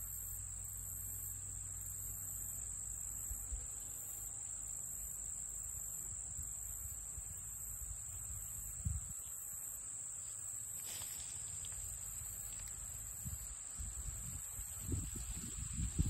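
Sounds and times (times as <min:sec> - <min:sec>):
high pulsing insect call: 0:00.0 - 0:16.0
insects trilling: 0:00.0 - 0:16.0.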